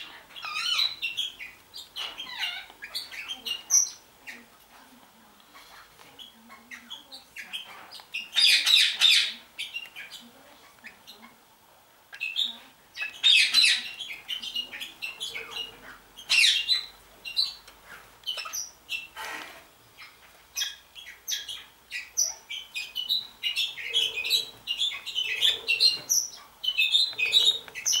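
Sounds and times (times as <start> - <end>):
budgerigars chattering and squawking: 0.0 - 28.0.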